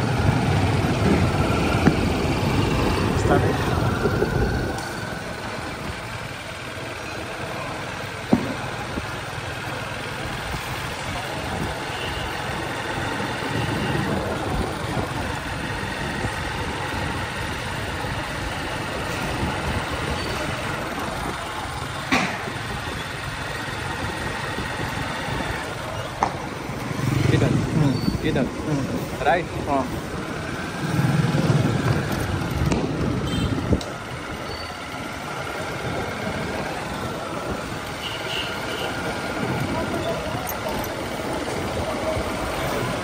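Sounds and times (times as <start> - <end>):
motorcycle engine running: 0.0 - 43.0
road and wind noise: 0.0 - 43.0.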